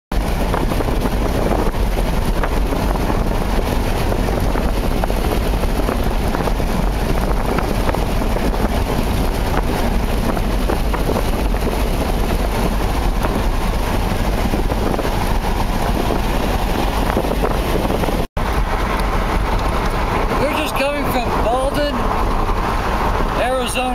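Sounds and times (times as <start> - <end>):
road and wind noise in car: 0.1 - 23.9.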